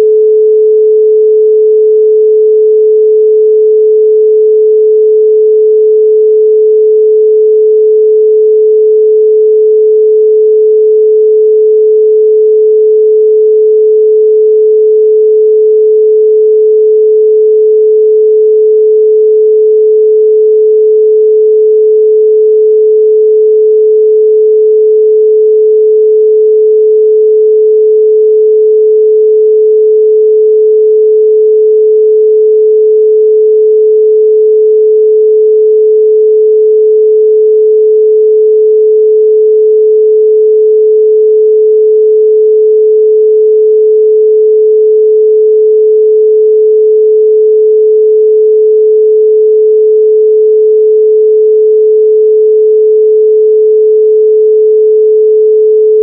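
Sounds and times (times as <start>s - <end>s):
pure sine tone: 0.0s - 56.0s.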